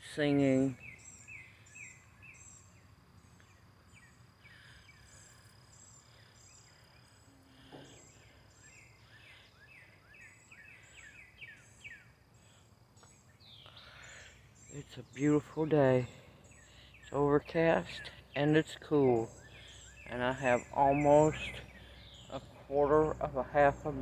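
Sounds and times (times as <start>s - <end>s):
birds chirping and whistling: 0.7s - 2.8s, 3.4s - 24.0s.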